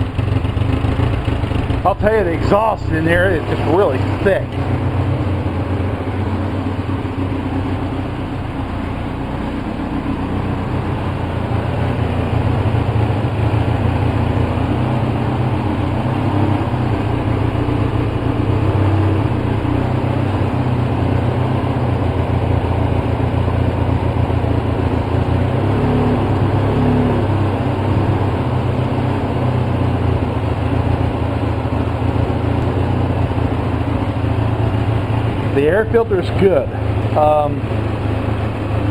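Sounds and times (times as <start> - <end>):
engine idling roughly: 0.0 - 25.7, 27.2 - 38.9.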